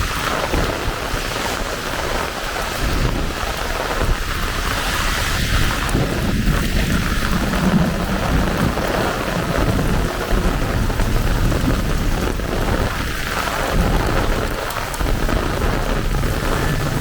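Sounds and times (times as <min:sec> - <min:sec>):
heavy rain pouring: 0:00.0 - 0:17.0
rolling thunder rumble: 0:00.0 - 0:17.0.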